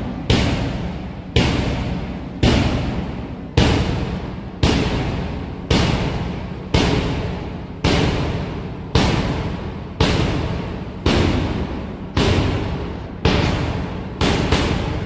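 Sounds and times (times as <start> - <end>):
large drum beating slowly: 0.0 - 15.0.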